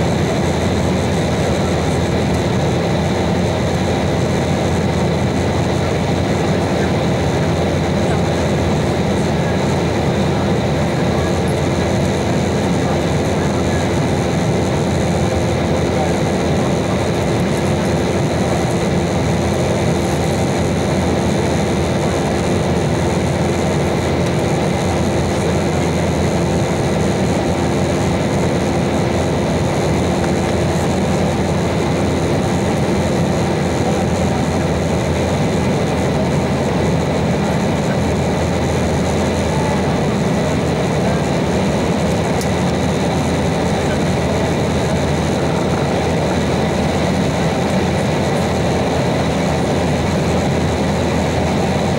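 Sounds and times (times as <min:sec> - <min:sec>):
jet engine drone: 0:00.0 - 0:51.9.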